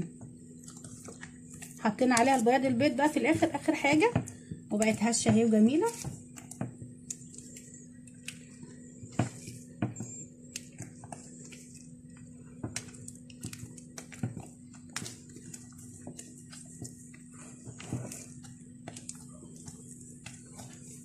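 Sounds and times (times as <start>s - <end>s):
steady low hum: 0.0s - 21.0s
utensil scraping a mixing bowl: 0.6s - 21.0s.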